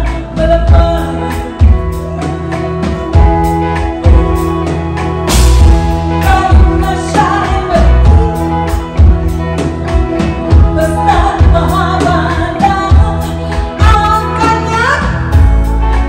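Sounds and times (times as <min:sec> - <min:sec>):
woman singing: 0:00.0 - 0:04.6, 0:06.1 - 0:09.6, 0:10.5 - 0:16.0
bass guitar: 0:00.0 - 0:16.0
drum kit beat: 0:00.0 - 0:16.0
electric guitar: 0:00.0 - 0:16.0.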